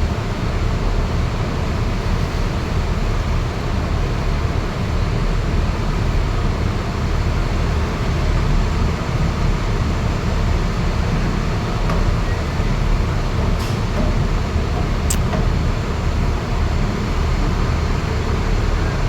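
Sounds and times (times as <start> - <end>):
ship engines rumbling: 1.9 - 19.0.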